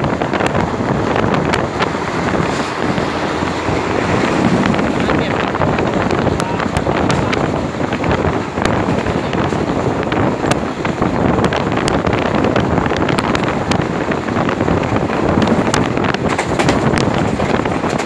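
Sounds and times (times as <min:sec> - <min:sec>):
train rumbling on rails: 0:00.0 - 0:18.0
wind rushing over microphone: 0:00.0 - 0:18.0.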